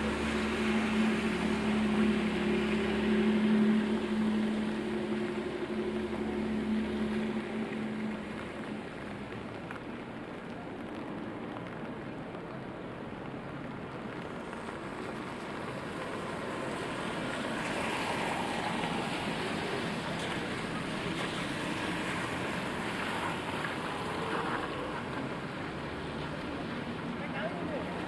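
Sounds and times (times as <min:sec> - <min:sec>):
rain: 0:00.0 - 0:28.0
tyres hissing on wet pavement: 0:00.0 - 0:28.0.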